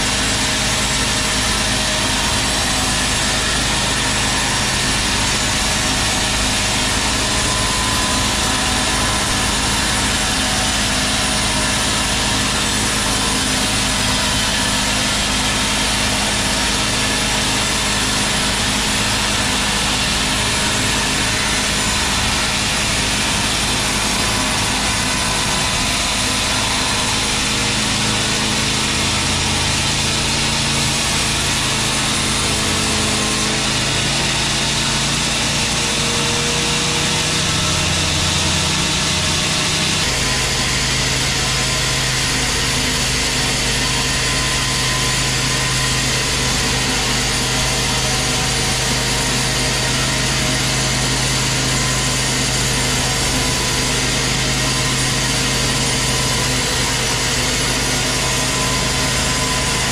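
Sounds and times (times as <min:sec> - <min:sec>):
band saw cutting through log: 0:00.0 - 0:59.9.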